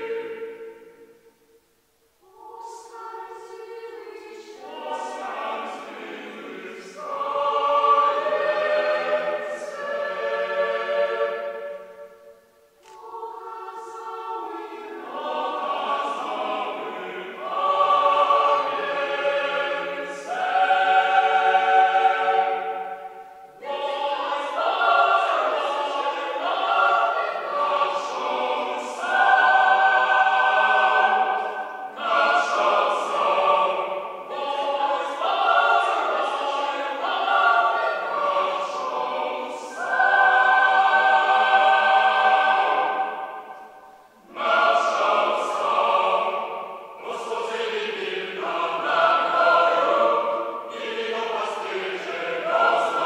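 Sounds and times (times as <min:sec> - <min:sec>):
choir singing unaccompanied: 0:00.0 - 0:01.4, 0:02.2 - 0:53.0.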